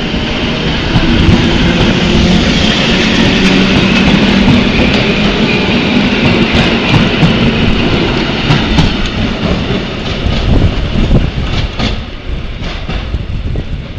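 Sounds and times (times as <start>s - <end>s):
electric train passing: 0.0s - 13.9s
train wheels clacking over rail joints: 1.0s - 13.2s.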